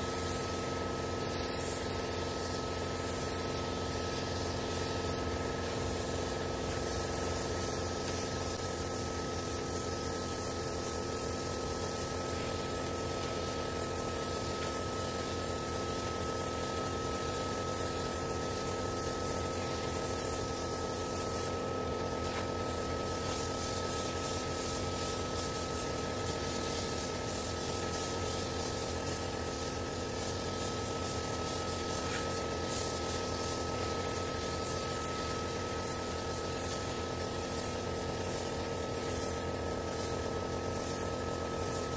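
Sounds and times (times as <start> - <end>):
spray gun hissing: 0.0 - 41.9.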